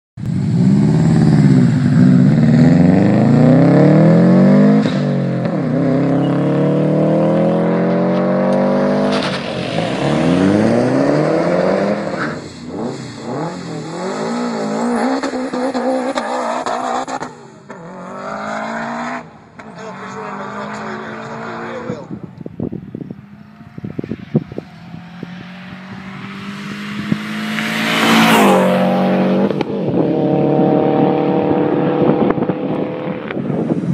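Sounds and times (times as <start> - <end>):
car engine accelerating hard: 0.2 - 22.2, 22.9 - 33.9
car engine revving unevenly: 0.2 - 33.9.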